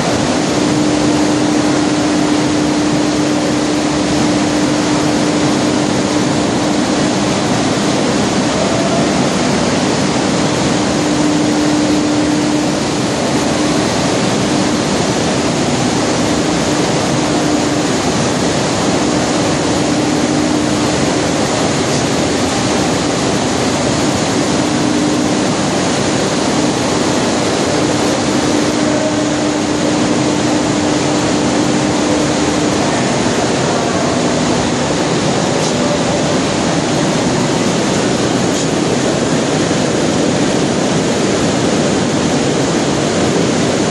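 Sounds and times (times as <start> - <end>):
machinery noise: 0.0 - 43.9
steady hum: 0.0 - 43.9.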